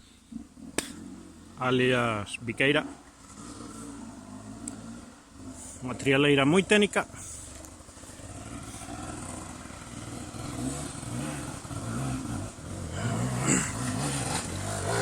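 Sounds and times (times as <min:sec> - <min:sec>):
motorcycle engine revving: 0:00.1 - 0:15.0.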